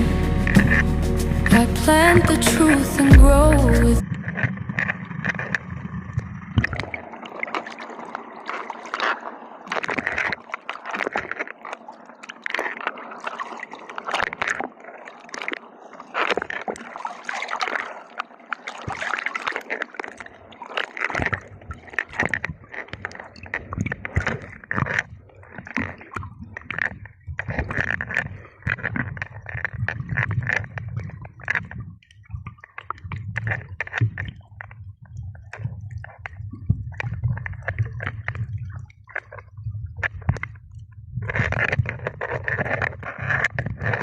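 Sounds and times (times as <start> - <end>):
water sloshing and splashing: 3.5 - 44.0.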